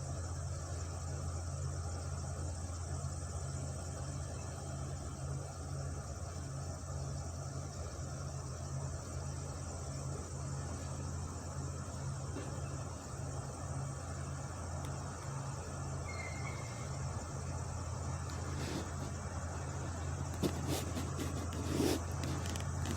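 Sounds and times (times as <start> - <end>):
faint hiss: 0.0 - 22.9.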